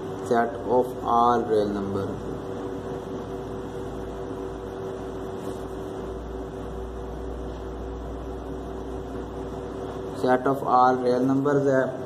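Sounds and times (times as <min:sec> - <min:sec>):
mechanical hum and hiss: 0:00.0 - 0:12.0.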